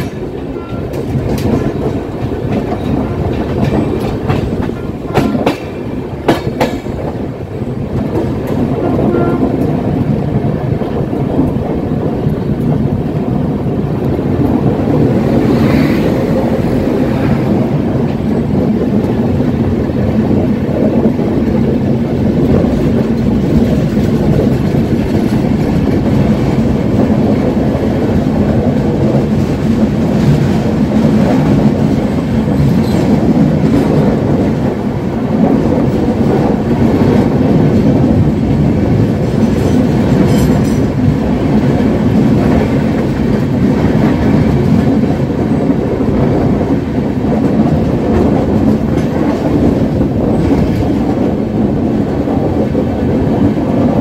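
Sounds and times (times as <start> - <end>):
rail clicks: 0.0 - 54.0
train wheels rumbling on rails: 0.0 - 54.0.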